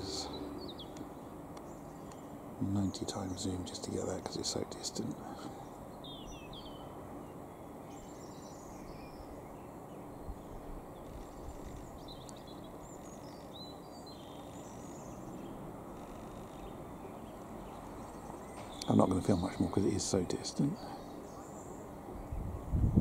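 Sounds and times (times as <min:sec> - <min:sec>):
faint bird chirps: 0:00.0 - 0:22.7
low outdoor rumble: 0:00.0 - 0:23.0.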